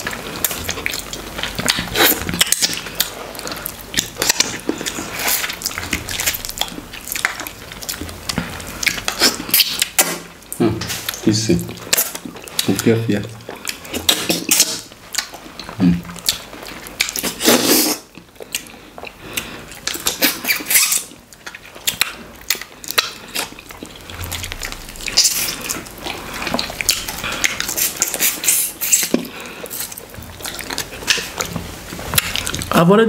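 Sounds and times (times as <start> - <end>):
wet eating squelches and smacks: 0.0 - 32.8.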